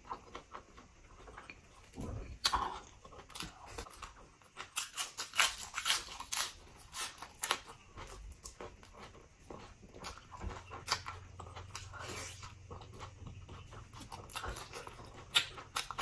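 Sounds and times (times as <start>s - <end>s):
wet chewing and lip-smacking: 0.0s - 16.0s.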